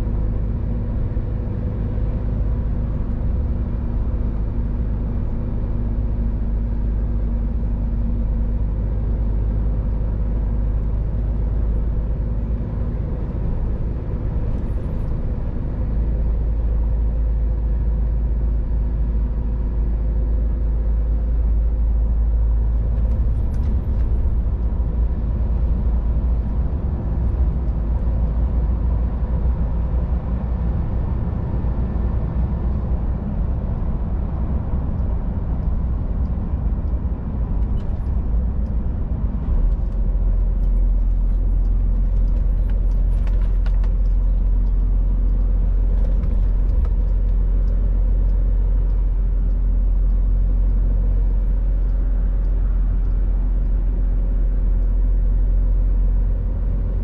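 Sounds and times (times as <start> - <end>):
road and tyre noise: 0.0 - 57.0
truck diesel engine rumbling: 0.0 - 57.0.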